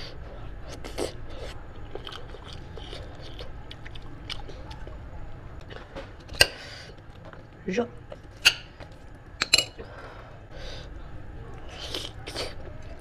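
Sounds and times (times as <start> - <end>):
chewing: 0.6 - 9.9, 11.5 - 13.0.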